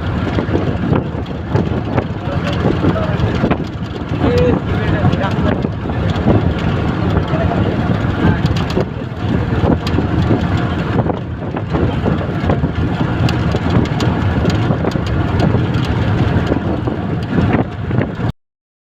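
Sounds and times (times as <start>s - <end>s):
wind buffeting microphone: 0.0s - 18.3s
vehicle running rumble: 0.0s - 18.4s.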